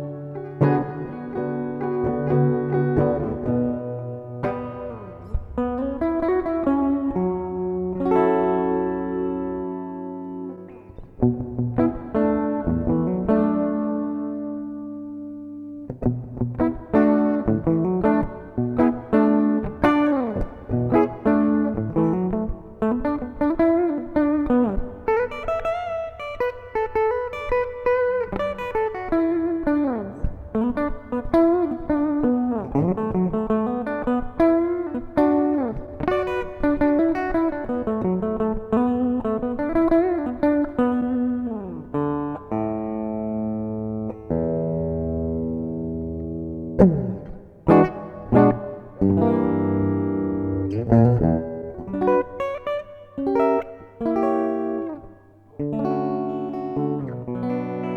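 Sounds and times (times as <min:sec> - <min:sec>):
clean electric guitar with reverb: 0:00.0 - 0:57.9.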